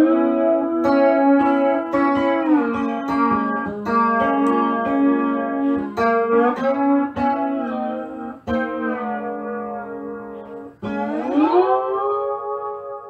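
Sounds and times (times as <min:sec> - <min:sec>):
slide guitar chords: 0:00.0 - 0:13.0.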